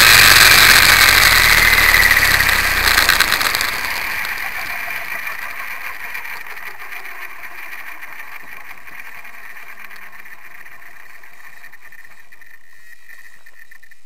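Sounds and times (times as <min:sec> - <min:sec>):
electric helicopter motor whine: 0:00.0 - 0:14.0.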